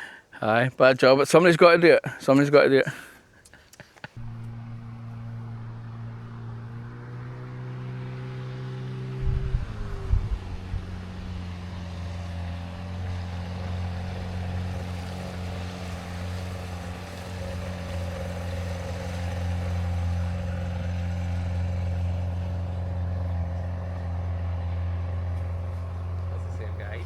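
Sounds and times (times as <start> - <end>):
motorboat engine drone: 4.2 - 27.0.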